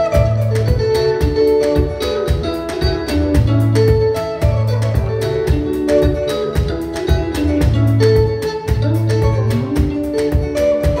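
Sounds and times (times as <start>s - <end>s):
band playing rumba: 0.0s - 11.0s.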